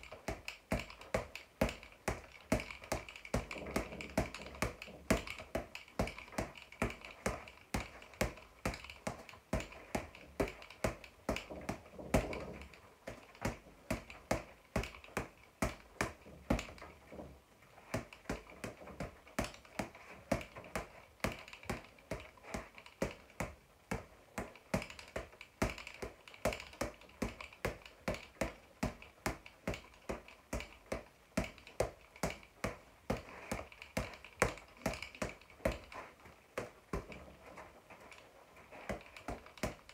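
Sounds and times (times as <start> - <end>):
boxing gloves hitting a punch ball: 0.0 - 17.3, 17.9 - 37.4, 38.1 - 39.9.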